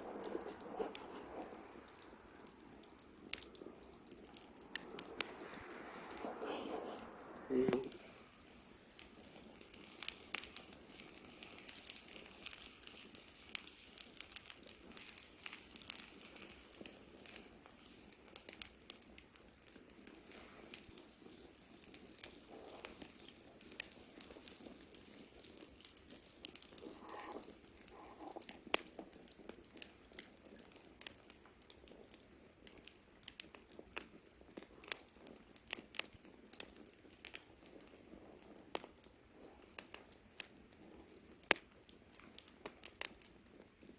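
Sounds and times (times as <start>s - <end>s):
bonfire pops and snaps: 0.0s - 43.9s
rush of burning fire: 0.0s - 43.9s.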